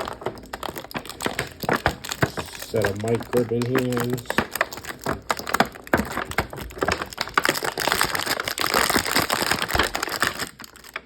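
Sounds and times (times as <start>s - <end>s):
plastic packaging clicking and crinkling: 0.0s - 11.0s.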